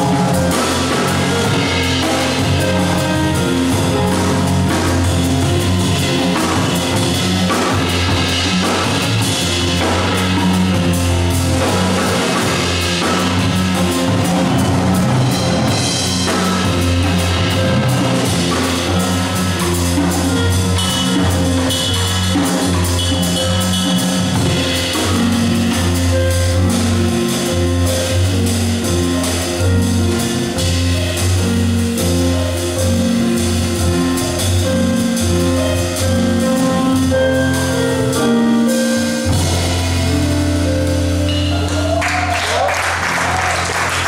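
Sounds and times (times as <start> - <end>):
double bass walking: 0.0 - 42.0
drum kit with cymbals: 0.0 - 44.0
piano: 0.0 - 44.0.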